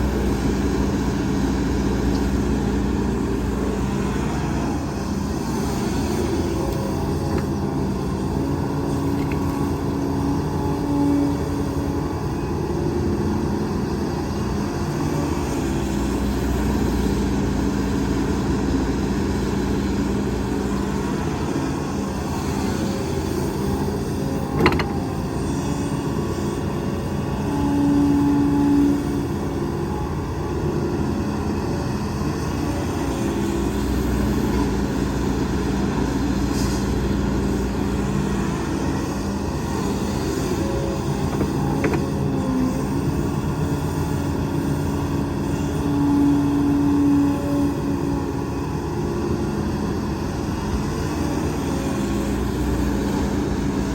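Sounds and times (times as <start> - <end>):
heavy machinery diesel engines: 0.0 - 53.9.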